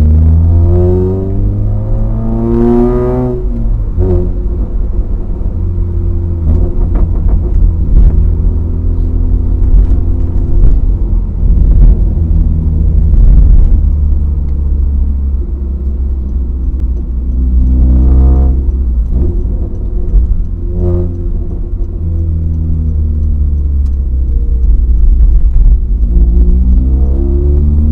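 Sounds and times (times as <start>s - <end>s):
car engine drone while driving: 0.0s - 27.9s.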